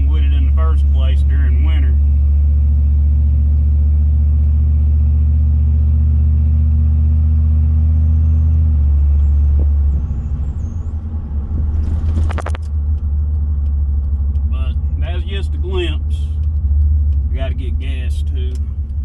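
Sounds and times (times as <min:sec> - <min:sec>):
truck engine drone: 0:00.0 - 0:19.0.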